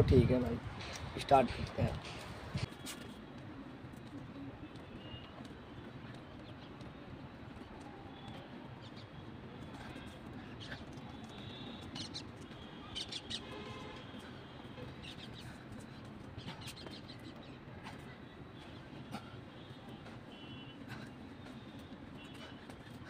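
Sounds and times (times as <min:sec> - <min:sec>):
birds chirping: 0:04.3 - 0:23.0.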